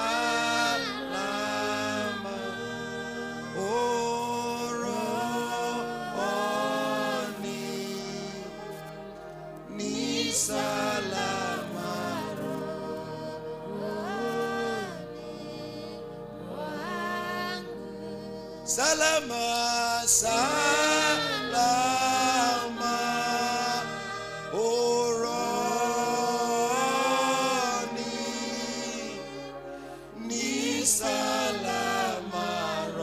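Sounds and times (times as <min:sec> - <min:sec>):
man singing gospel song: 0:00.0 - 0:09.0, 0:09.6 - 0:17.6, 0:18.7 - 0:33.0
sustained keyboard chord: 0:00.0 - 0:33.0.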